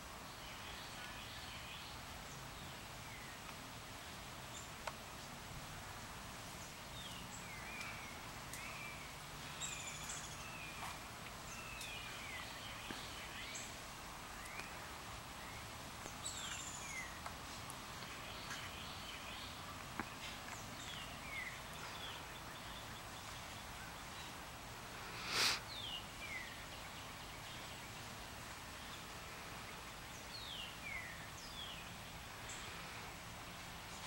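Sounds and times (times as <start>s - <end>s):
steady hiss: 0.0s - 34.0s
birds chirping: 6.4s - 34.0s.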